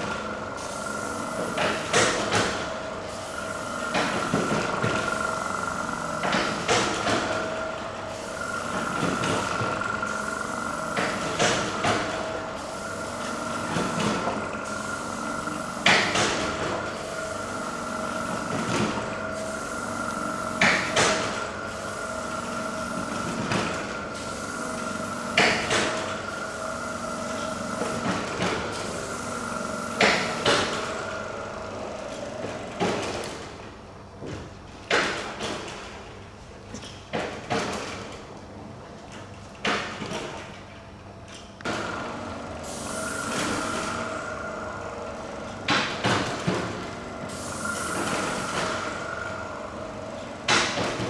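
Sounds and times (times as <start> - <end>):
steady hum: 0.0 - 34.3, 40.8 - 51.0.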